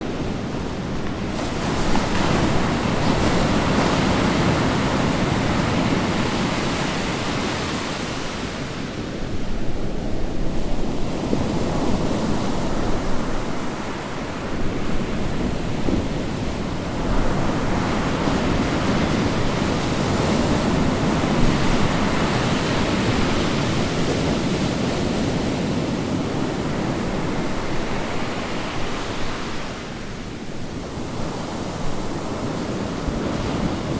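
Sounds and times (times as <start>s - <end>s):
ocean waves breaking on shore: 0.0s - 33.9s.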